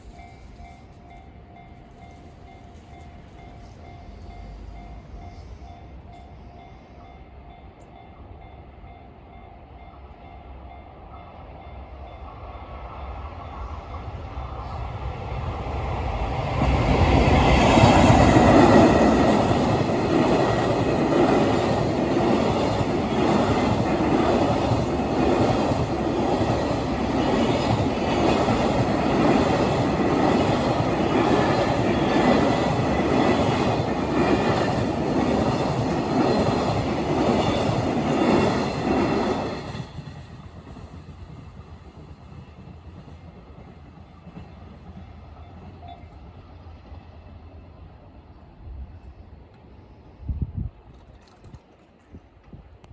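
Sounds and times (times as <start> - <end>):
freight train wagons rolling past: 0.0 - 52.9.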